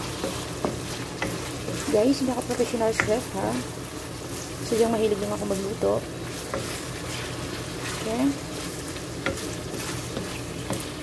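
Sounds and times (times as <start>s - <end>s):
spatula tapping pan: 0.0s - 3.6s, 4.8s - 8.0s, 8.9s - 11.0s
aromatics sizzling in hot oil: 0.0s - 11.0s
spatula scraping in wok: 0.0s - 11.0s.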